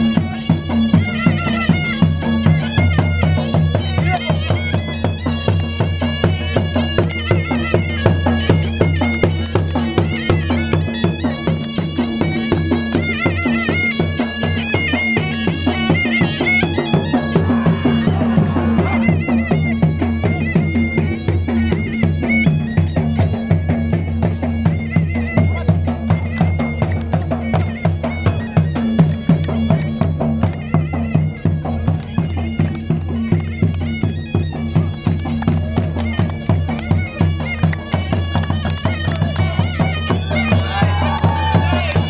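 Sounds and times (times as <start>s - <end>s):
drum beat: 0.0s - 42.0s
shawm playing a melody: 0.0s - 42.0s.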